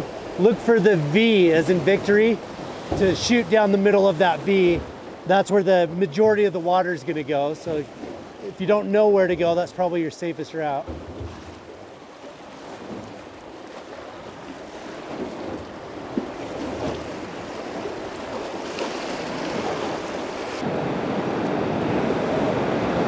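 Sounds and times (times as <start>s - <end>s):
whitewater rushing: 0.0s - 23.0s.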